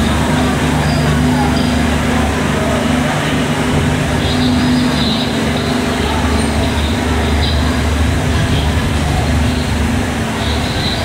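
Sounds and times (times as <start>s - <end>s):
faint people's voices: 0.0s - 11.0s
train machinery humming: 0.0s - 11.0s.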